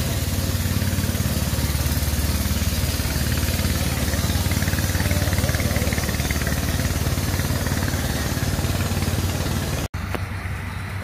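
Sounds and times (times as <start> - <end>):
combine harvester engine: 0.0 - 11.0.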